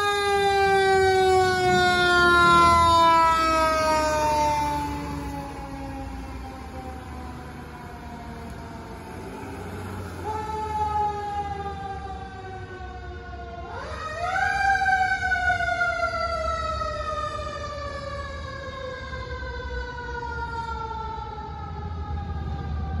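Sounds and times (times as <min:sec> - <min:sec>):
fire engine mechanical siren wailing: 0:00.0 - 0:23.0.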